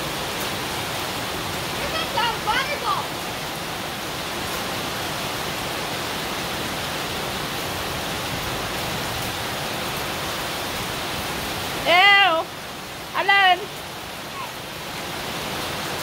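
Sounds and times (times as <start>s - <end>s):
heavy rain on paving: 0.0s - 16.0s.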